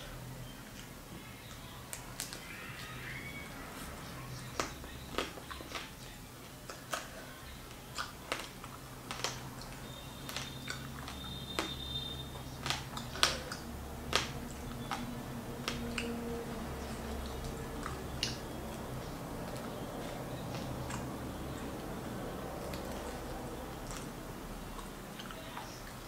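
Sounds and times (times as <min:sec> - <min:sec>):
chewing and lip smacking: 0:00.6 - 0:26.0.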